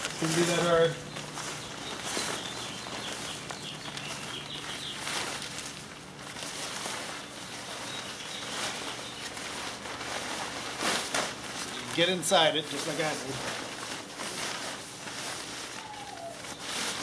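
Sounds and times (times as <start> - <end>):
fabric cover rustling and flapping: 0.0 - 17.0.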